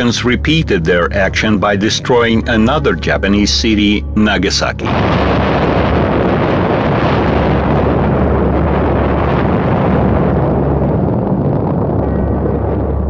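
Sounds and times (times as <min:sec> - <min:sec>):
explosion rumble: 0:00.0 - 0:13.0.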